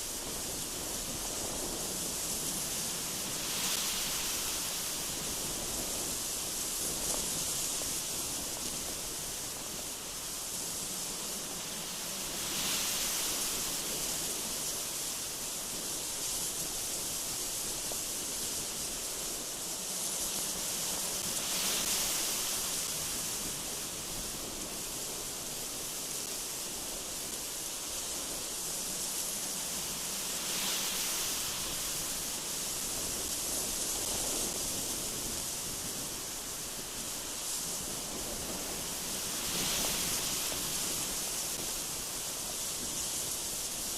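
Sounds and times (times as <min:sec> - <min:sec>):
gusty wind through trees: 0:00.0 - 0:43.9.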